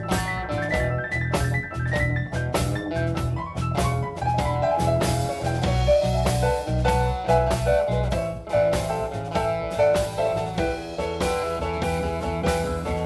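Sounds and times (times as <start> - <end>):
blues band playing: 0.0 - 13.0
drums steady beat: 0.0 - 13.0
lead melody: 0.0 - 13.0.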